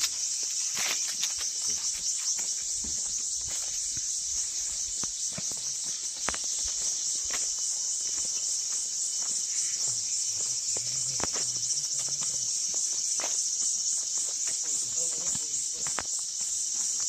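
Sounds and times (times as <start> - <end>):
footsteps on earth and stone: 0.0 - 17.0
high-pitched insect chorus: 0.0 - 17.0.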